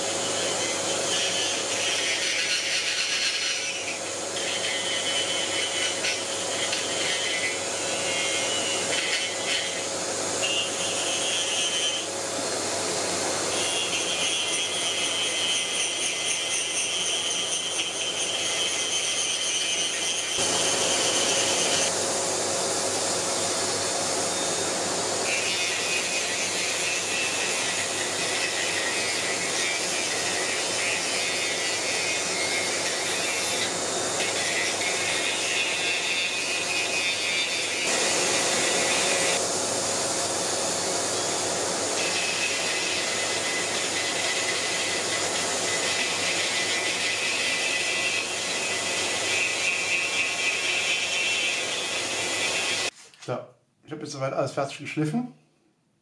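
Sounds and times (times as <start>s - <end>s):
rotary tool sanding wood: 0.0s - 12.2s, 13.5s - 22.0s, 25.2s - 39.5s, 40.7s - 53.0s.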